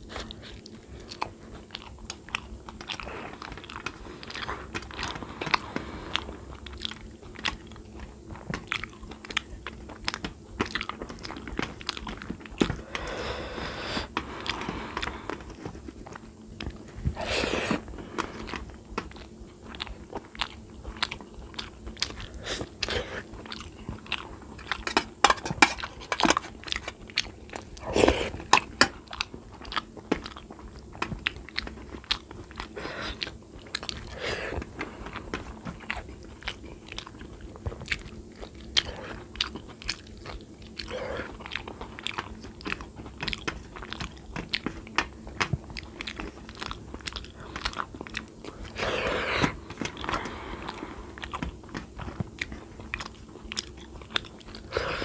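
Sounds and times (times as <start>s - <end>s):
person chewing and biting: 0.0s - 55.0s.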